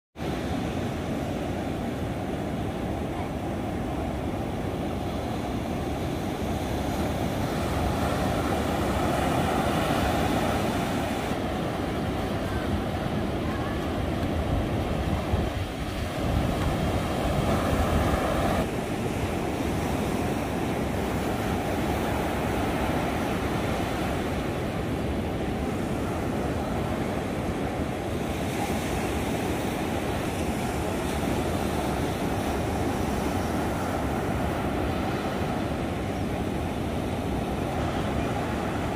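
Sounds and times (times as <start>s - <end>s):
ocean surf breaking on beach: 0.2s - 38.9s.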